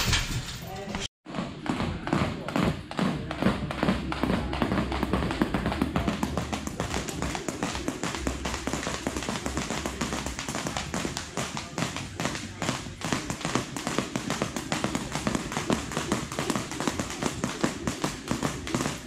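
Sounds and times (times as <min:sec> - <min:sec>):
bare feet landing: 0:01.3 - 0:19.0
jump ropes slapping mats: 0:01.3 - 0:19.0.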